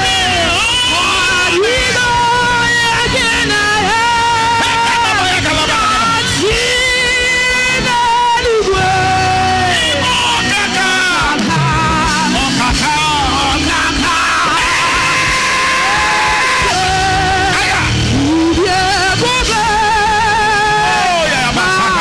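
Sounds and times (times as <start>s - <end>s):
band accompaniment: 0.0s - 22.0s
singing voice with long notes: 0.0s - 22.0s.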